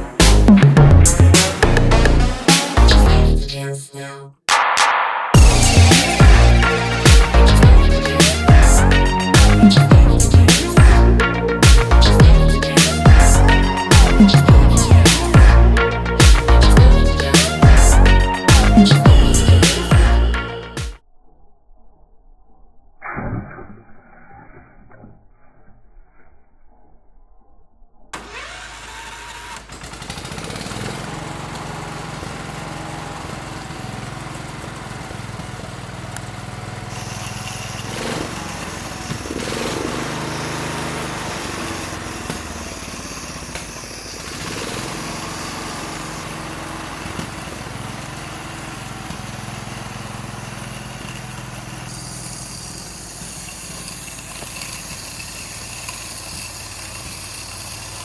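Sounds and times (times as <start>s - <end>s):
tractor engine running: 0.0s - 3.1s, 5.4s - 20.9s, 28.2s - 58.0s.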